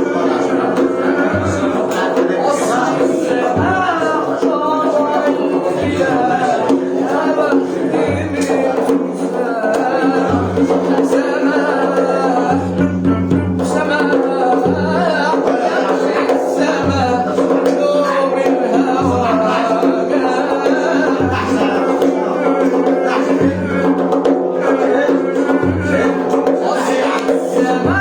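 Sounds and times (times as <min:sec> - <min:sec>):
man singing over instruments: 0:00.0 - 0:28.0.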